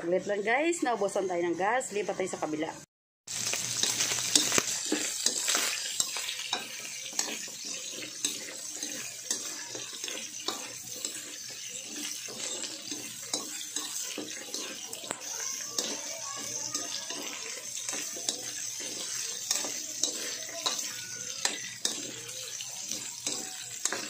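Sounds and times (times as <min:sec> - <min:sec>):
pork sizzling in a wok: 0:03.3 - 0:24.0
metal spatula scraping a wok: 0:03.4 - 0:24.0.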